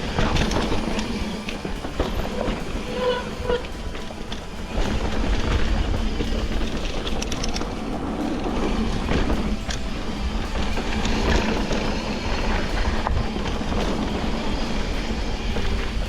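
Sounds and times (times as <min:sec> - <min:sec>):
wind and road noise from bike: 0:00.0 - 0:16.0.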